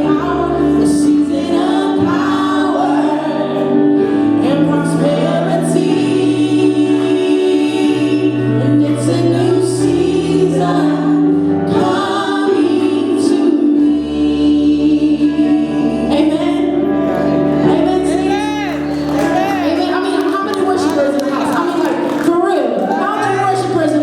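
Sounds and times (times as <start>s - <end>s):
choir singing worship song: 0.0s - 24.0s
instrumental accompaniment: 0.0s - 24.0s.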